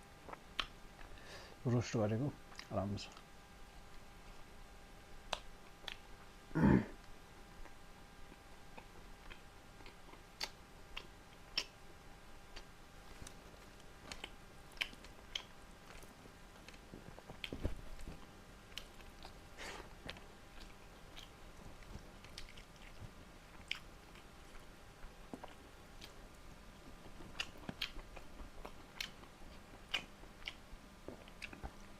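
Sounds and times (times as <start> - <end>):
person chewing food: 0.2 - 1.2, 2.5 - 4.5, 5.2 - 31.9.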